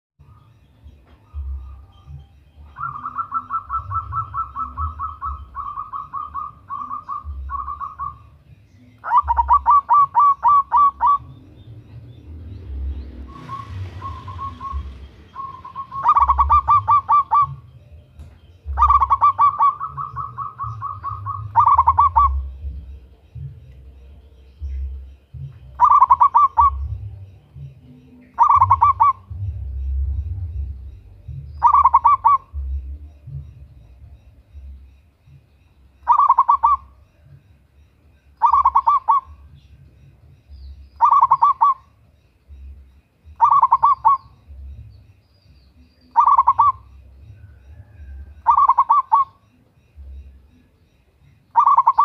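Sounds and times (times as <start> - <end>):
dove cooing: 0.2 - 12.0, 12.8 - 40.1, 40.7 - 45.1, 45.7 - 52.0.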